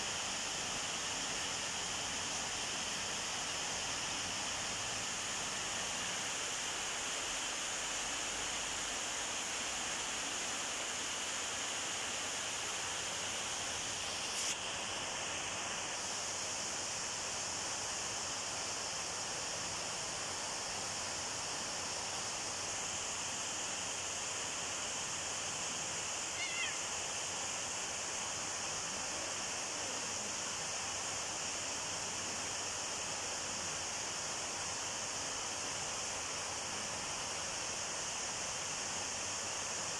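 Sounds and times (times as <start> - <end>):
high background hiss: 0.0 - 39.9.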